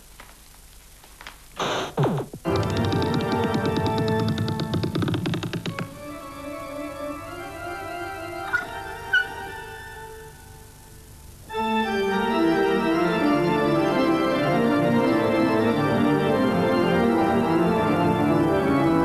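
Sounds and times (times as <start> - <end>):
organ chords: 1.6 - 19.0.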